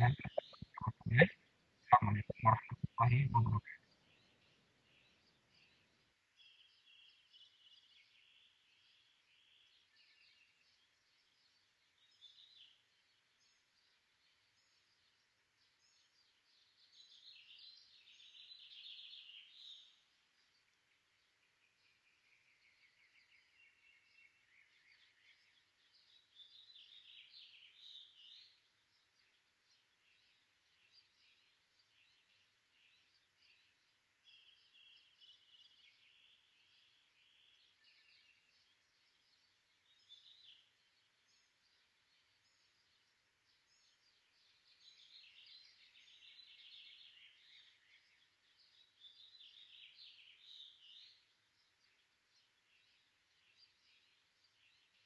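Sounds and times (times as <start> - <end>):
low background hiss: 0.0 - 55.0
small birds chirping: 0.0 - 55.0.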